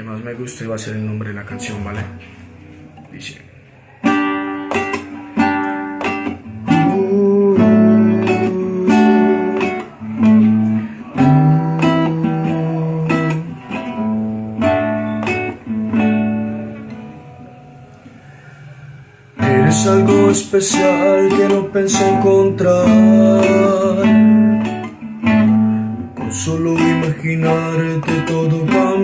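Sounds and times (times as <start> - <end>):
acoustic guitar chords: 1.0 - 29.0.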